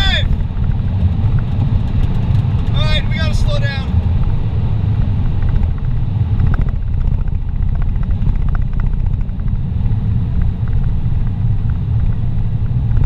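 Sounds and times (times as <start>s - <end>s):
car road and wind rumble: 0.0s - 13.0s.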